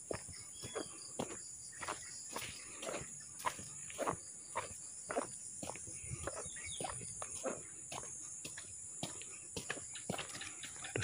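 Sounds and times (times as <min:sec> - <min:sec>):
footsteps on wet dirt: 0:00.0 - 0:11.0.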